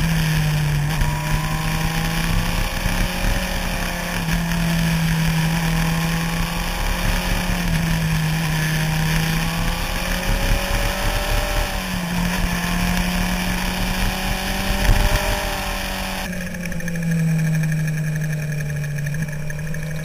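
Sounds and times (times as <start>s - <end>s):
wind noise on microphone: 0.0s - 16.3s
motorcycle engine running: 0.0s - 20.0s.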